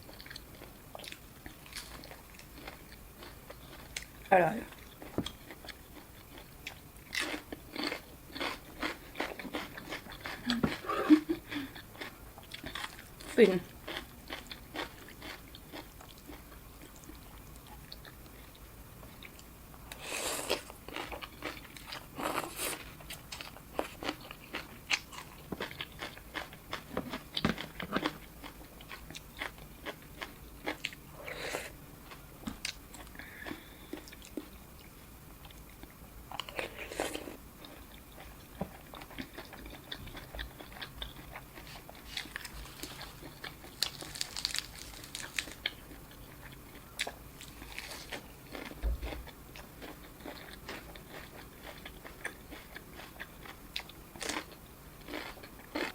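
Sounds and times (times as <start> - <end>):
person chewing: 0.0 - 55.9.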